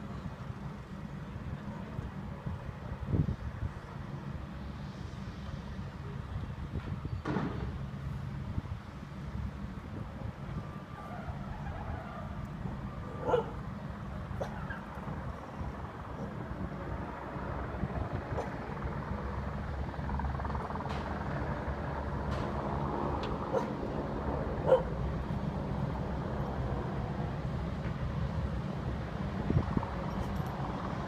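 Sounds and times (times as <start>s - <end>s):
distant helicopter hovering: 0.0s - 31.0s.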